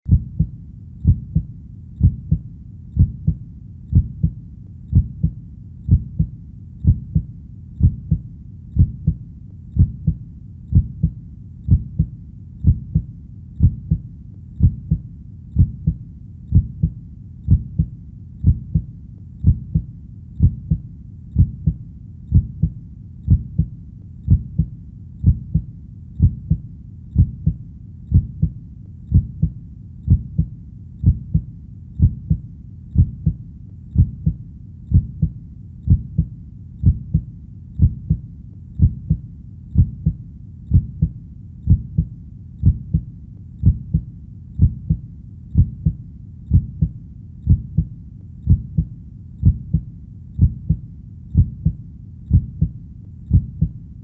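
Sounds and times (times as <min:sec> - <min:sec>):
heartbeat double thumps: 0:00.1 - 0:53.8
faint low hiss: 0:00.1 - 0:54.0.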